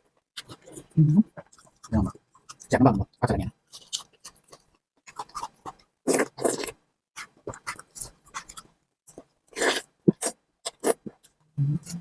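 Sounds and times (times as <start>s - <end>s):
person chewing: 0.4s - 2.8s, 3.6s - 12.0s.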